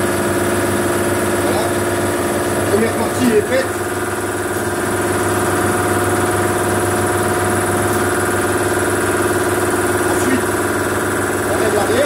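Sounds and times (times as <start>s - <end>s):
electric motor humming: 0.0s - 12.0s.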